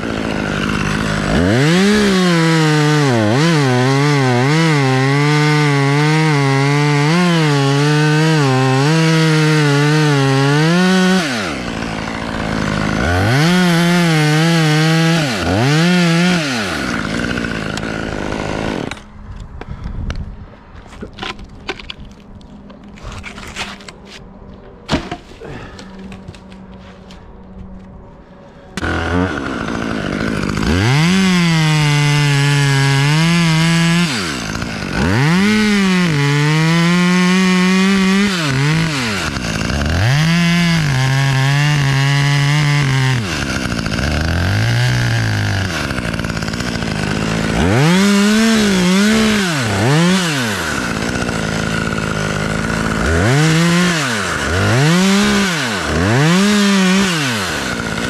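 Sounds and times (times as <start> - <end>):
chainsaw revving: 0.0 - 19.1, 28.8 - 58.0.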